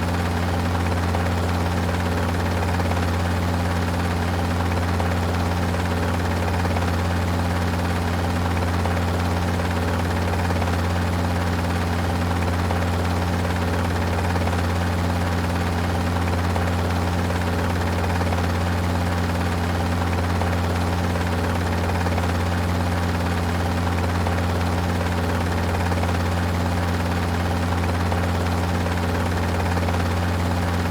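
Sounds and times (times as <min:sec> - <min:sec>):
helicopter rotor and engine drone: 0:00.0 - 0:30.9.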